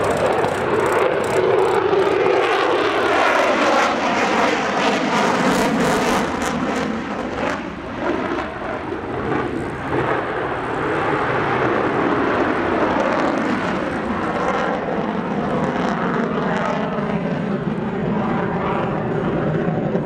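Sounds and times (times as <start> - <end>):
propeller engine drone: 0.0 - 20.0.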